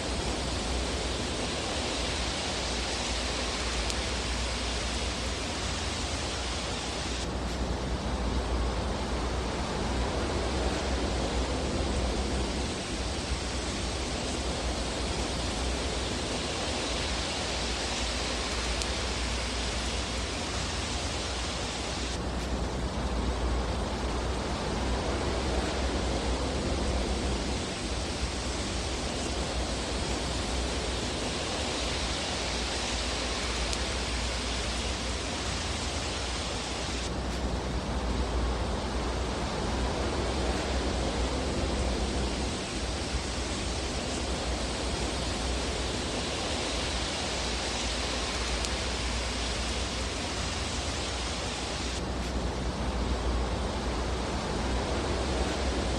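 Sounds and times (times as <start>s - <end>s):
fireplace rushing hiss and rumble: 0.0s - 55.9s.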